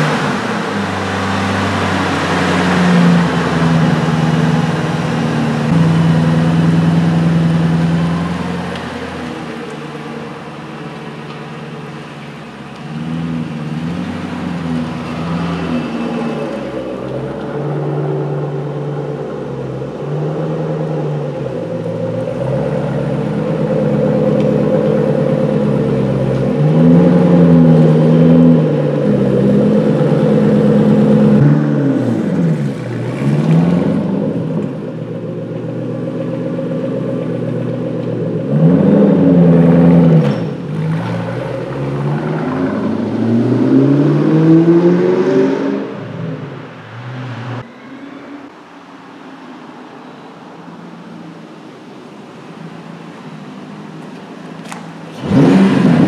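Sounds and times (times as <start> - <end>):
car engine revving: 0.0 - 50.2, 51.0 - 56.0
car pulling away: 0.0 - 56.0.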